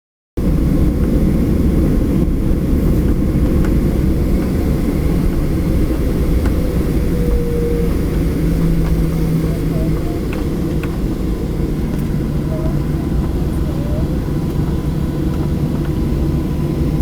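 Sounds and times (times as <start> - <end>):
airplane engines rumbling: 0.4 - 17.0.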